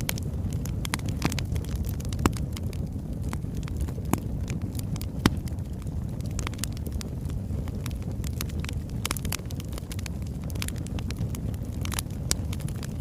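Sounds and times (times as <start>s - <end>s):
fire crackles and pops: 0.0s - 13.0s
low rumble of flame: 0.0s - 13.0s.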